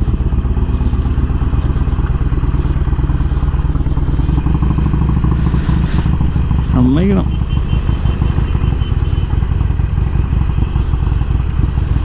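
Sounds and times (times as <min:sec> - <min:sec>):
motorcycle exhaust pulsing: 0:00.0 - 0:12.0.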